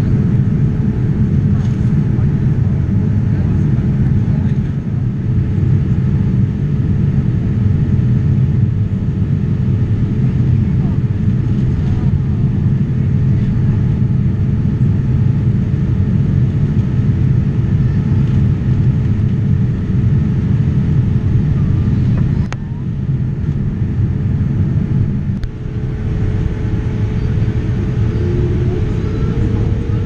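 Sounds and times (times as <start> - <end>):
aircraft cabin engine rumble: 0.0 - 30.0
faint steady hum: 0.0 - 30.0.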